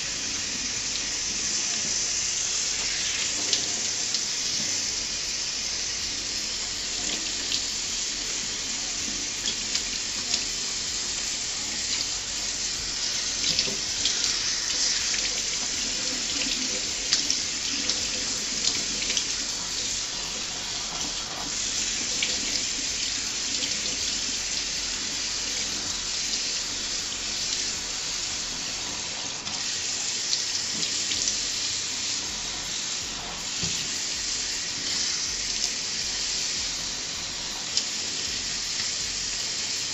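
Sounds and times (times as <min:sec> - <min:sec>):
faucet water splashing: 0:00.0 - 0:39.9.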